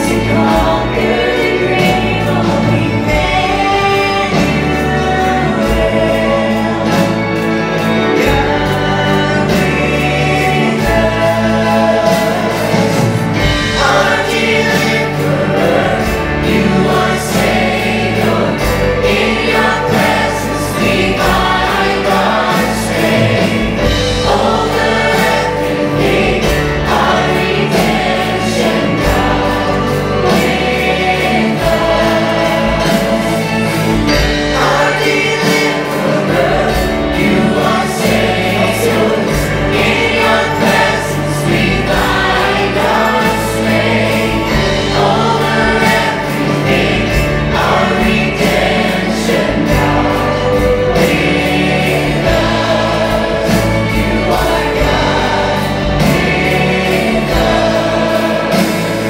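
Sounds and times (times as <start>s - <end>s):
choir singing: 0.0s - 59.0s
man and woman singing: 0.0s - 59.0s
steady bass: 0.0s - 59.0s
strummed acoustic guitar: 0.0s - 59.0s.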